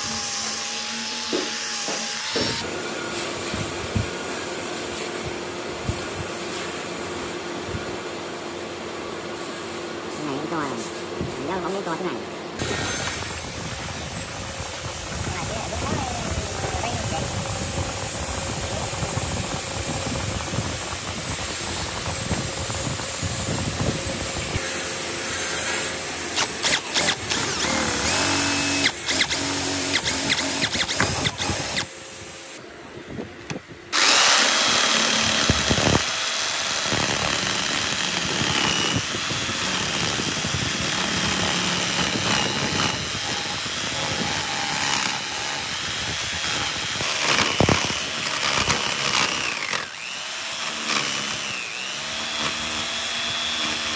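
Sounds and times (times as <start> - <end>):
jigsaw cutting wood: 0.0 - 4.2, 11.4 - 32.6, 33.9 - 53.9.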